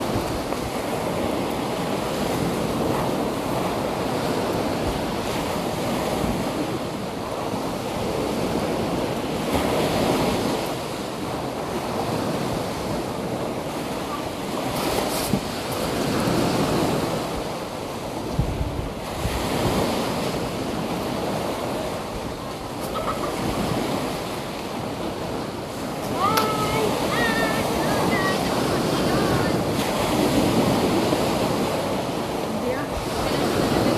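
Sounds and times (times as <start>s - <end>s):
waves breaking: 0.0s - 33.9s
wind buffeting microphone: 0.0s - 33.9s.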